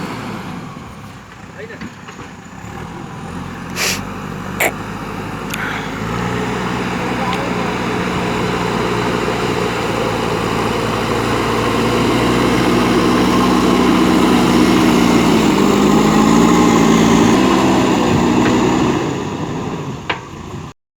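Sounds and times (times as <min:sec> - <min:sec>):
diesel engine running: 0:00.0 - 0:20.7.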